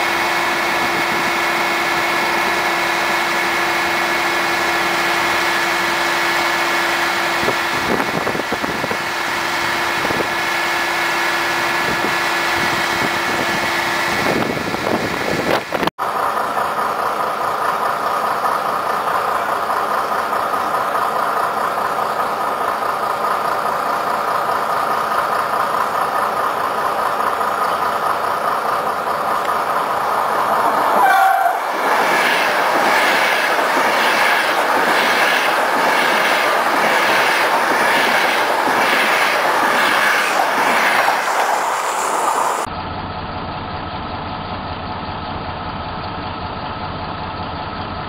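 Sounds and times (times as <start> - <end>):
train rushing past: 0.0 - 42.7
electric train equipment hum: 0.0 - 44.1.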